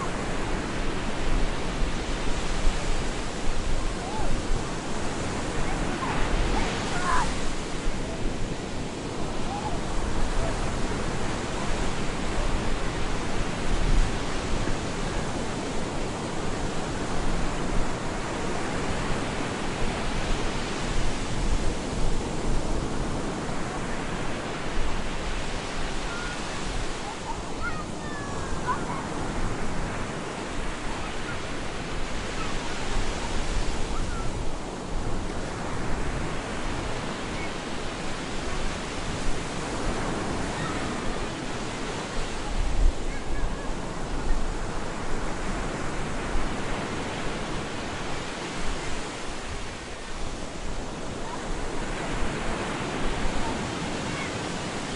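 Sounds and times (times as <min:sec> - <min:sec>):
surf breaking on beach: 0:00.0 - 0:54.9.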